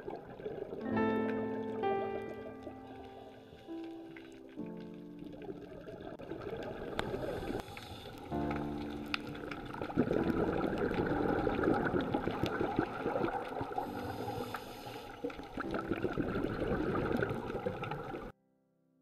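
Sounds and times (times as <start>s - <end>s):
underwater clicks and crackles: 0.0s - 18.3s
underwater water noise: 0.0s - 18.3s.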